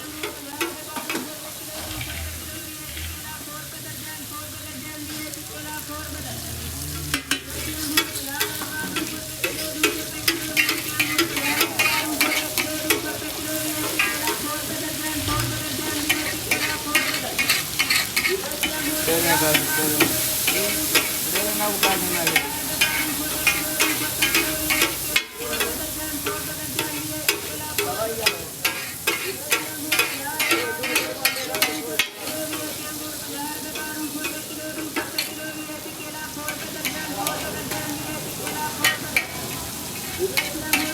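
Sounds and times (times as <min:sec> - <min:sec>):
metal spatula scraping a pan: 0:00.0 - 0:03.5, 0:05.1 - 0:40.9
meat sizzling in a pan: 0:00.0 - 0:40.9.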